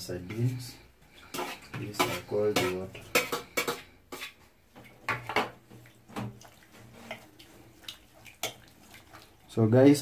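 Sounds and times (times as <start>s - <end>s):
water sloshing in a pot: 0.2s - 10.0s.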